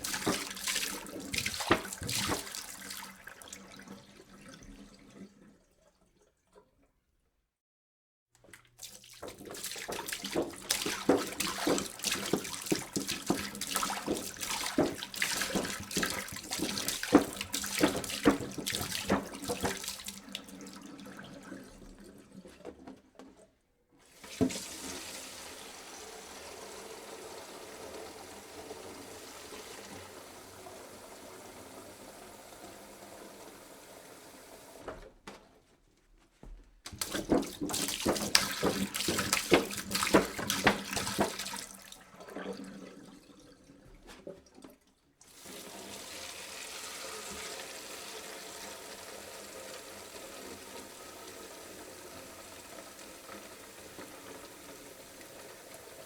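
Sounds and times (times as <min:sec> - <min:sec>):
water pouring into a jug: 0:00.0 - 0:06.8, 0:08.5 - 0:22.7, 0:24.0 - 0:34.8, 0:36.9 - 0:56.0.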